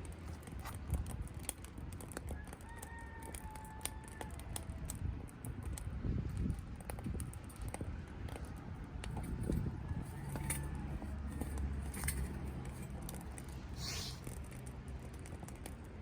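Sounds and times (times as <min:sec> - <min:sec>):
firewood crackling in stove: 0:00.0 - 0:16.0.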